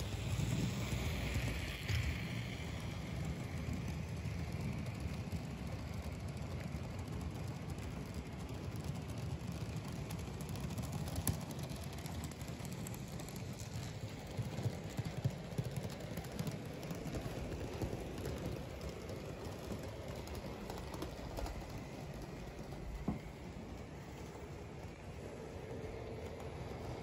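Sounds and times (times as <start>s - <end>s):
model train rumbling on track: 0.0s - 27.0s
wheels clicking on rails: 0.0s - 27.0s.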